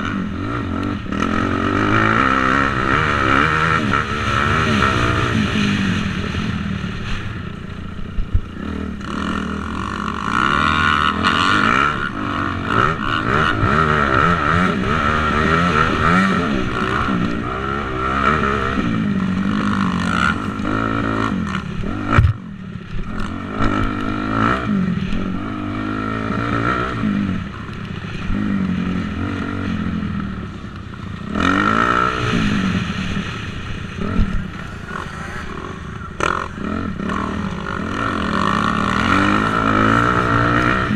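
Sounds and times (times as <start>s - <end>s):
motocross motorcycle engine revving: 0.0s - 7.2s, 8.3s - 40.9s.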